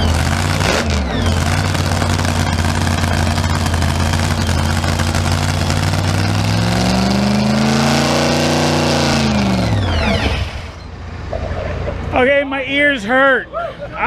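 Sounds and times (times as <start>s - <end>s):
loud engine running: 0.0s - 12.1s.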